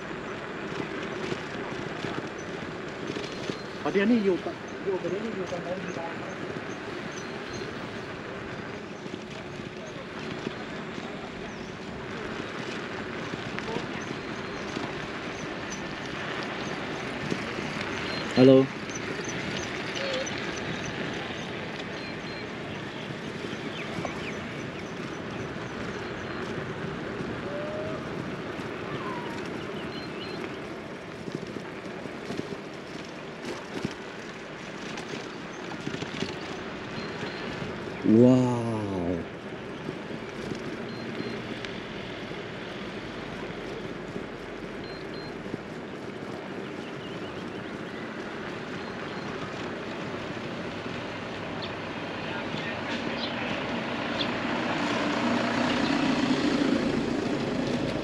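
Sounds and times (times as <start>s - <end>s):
steady outdoor noise: 0.0s - 58.0s.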